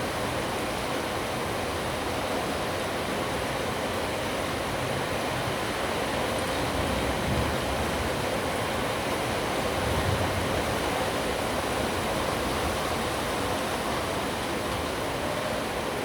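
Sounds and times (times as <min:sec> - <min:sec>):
heavy rain falling: 0:02.4 - 0:16.0.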